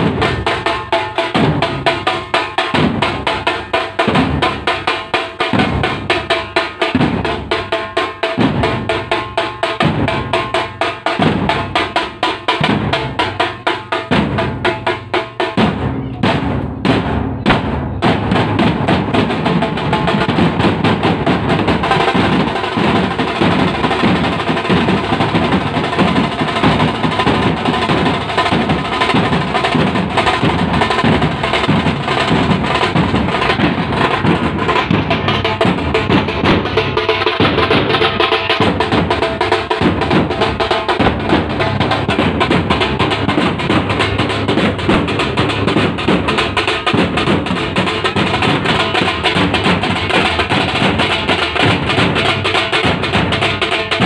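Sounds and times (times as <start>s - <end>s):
drummers playing stick drums: 0.0s - 54.0s
heavy bass drum beat: 0.0s - 54.0s.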